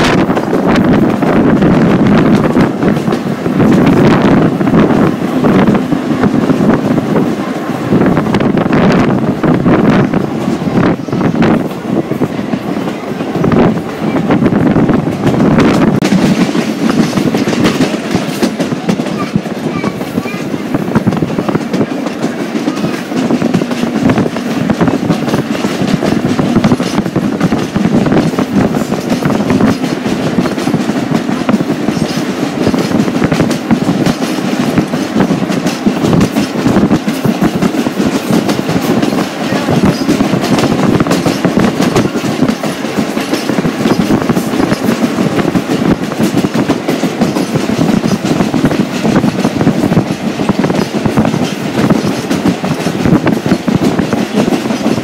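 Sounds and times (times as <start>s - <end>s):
rail car wheels clacking: 0.0s - 55.0s.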